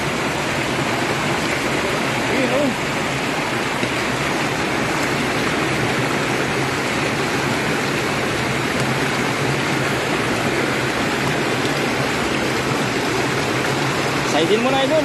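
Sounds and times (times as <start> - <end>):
water rushing through a channel: 0.0 - 15.0.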